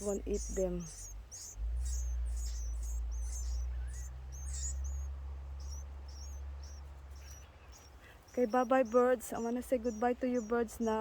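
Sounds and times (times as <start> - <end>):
nestling birds chirping: 0.0 - 11.0.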